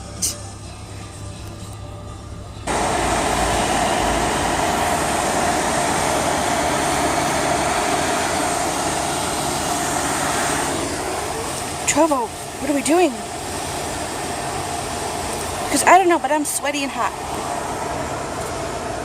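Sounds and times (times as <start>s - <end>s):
high-pressure water jets spraying: 2.7s - 19.0s.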